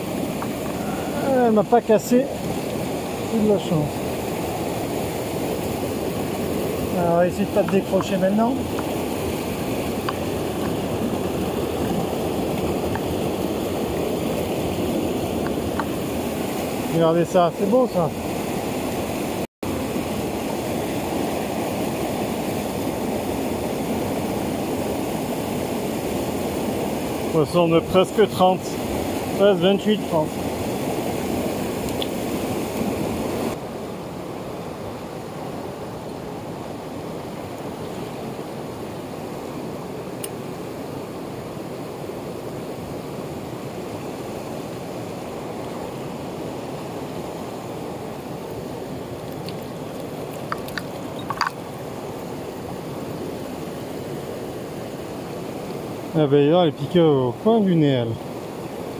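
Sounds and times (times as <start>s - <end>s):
rushing mountain torrent: 0.0s - 58.9s.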